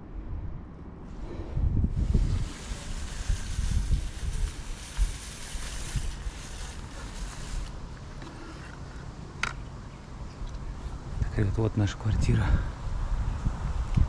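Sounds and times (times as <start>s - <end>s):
wind gusting on microphone: 0.0s - 9.2s, 10.1s - 14.0s.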